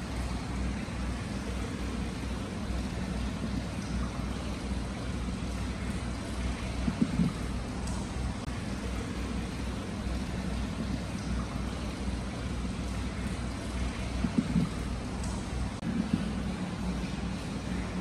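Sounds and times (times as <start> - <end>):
water pouring into stone basin: 0.0 - 18.0.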